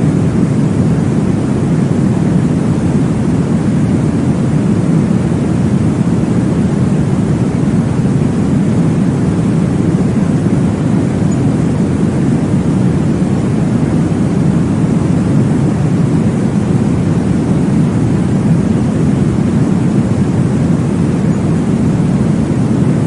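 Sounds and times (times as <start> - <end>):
deep whooshing white noise: 0.0 - 23.0.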